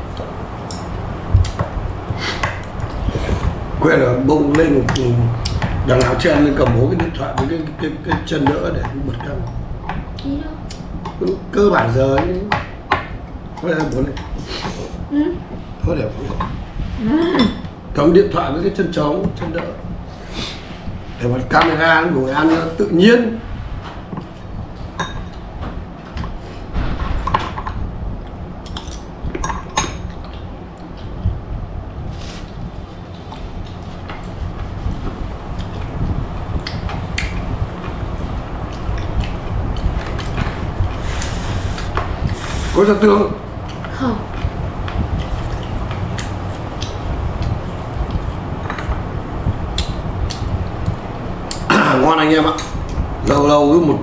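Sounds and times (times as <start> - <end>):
low hum: 0.0 - 54.0
low rumbling background noise: 0.0 - 54.0.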